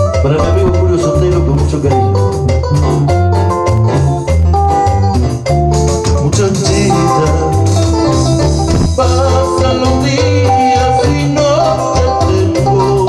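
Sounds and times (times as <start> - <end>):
bass line: 0.0 - 13.0
electric guitar: 0.0 - 13.0
organ-like keyboard melody: 0.0 - 13.0
percussion beat: 0.0 - 13.0.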